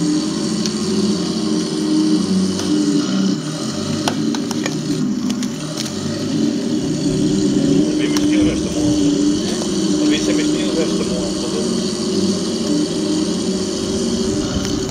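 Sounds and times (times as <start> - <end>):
toy tank motor humming: 0.0 - 14.9.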